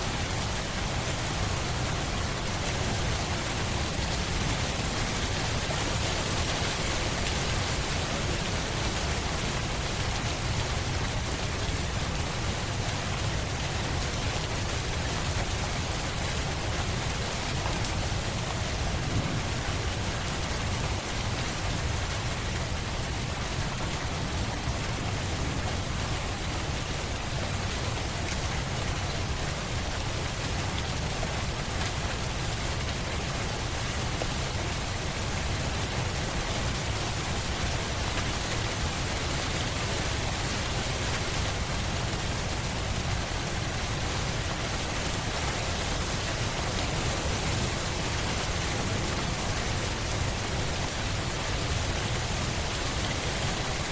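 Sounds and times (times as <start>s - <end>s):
steady rainfall hiss: 0.0s - 53.9s.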